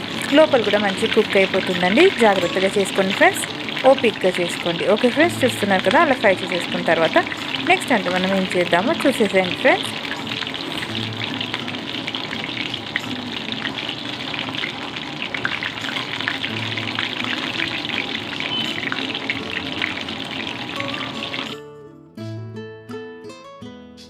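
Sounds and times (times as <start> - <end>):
chicken frying in hot oil: 0.0 - 21.6
acoustic guitar music: 0.0 - 24.0.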